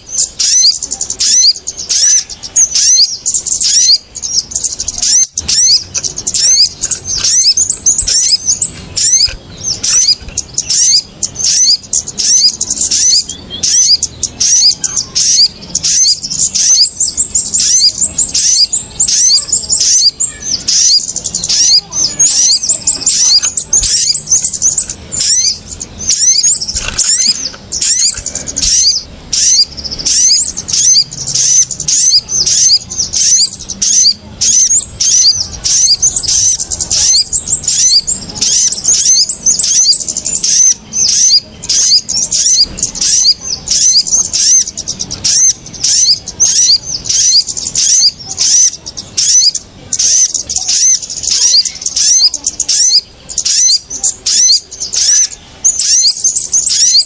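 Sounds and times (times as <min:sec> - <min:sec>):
rapid high-pitched bird chirps: 0:00.0 - 0:57.0.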